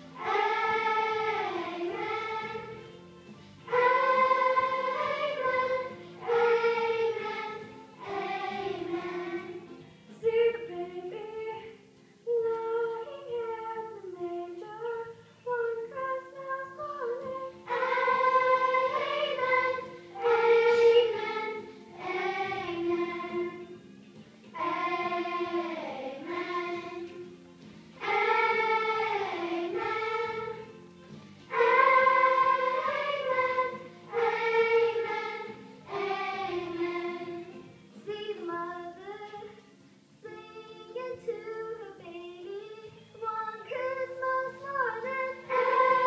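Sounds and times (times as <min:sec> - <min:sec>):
children's choir singing: 0:00.0 - 0:02.9, 0:03.7 - 0:23.8, 0:24.5 - 0:27.4, 0:28.0 - 0:30.7, 0:31.5 - 0:39.6, 0:40.2 - 0:46.0.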